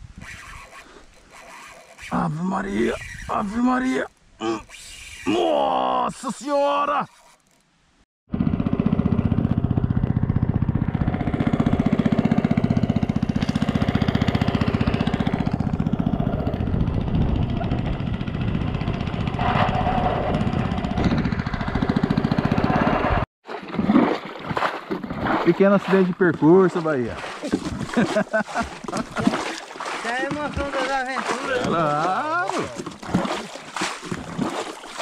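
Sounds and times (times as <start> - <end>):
small boat engine pulsing: 0.2 - 5.6, 6.2 - 7.7, 8.3 - 35.0.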